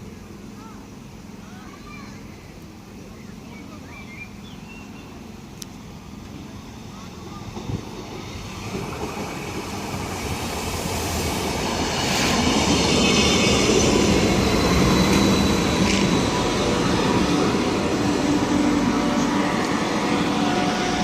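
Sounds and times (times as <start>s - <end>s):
train running past: 0.0s - 21.0s.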